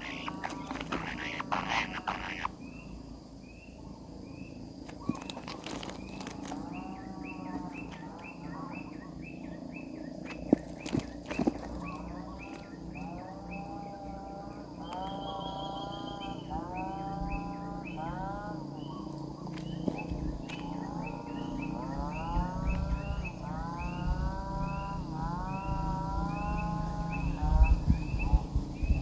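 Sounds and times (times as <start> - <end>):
lower begging calls: 0.0 - 3.1, 4.8 - 29.0
nestling birds chirping: 0.0 - 29.0.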